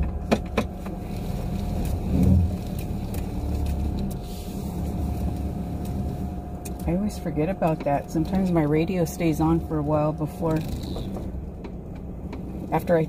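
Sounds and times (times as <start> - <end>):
van engine low rumble: 0.0 - 13.0.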